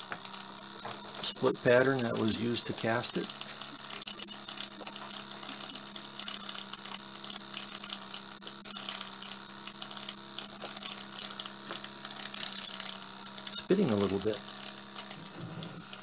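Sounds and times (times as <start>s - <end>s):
model steam engine humming: 0.0s - 16.0s.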